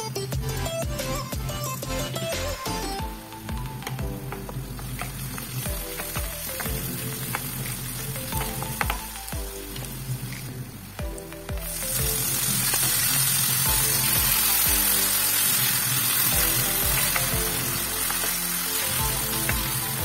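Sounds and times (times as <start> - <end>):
music with steady beat: 0.0 - 20.0
food sizzling in hot oil: 2.1 - 20.0.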